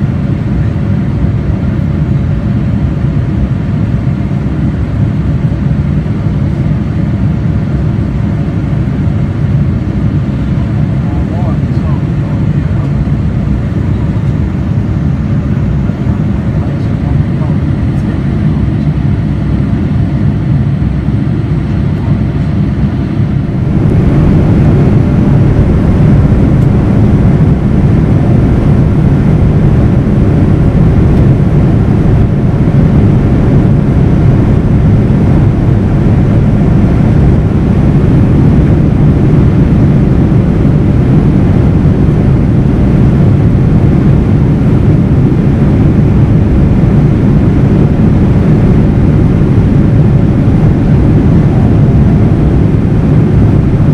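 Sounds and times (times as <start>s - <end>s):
airplane cabin engine roar: 0.0s - 53.9s.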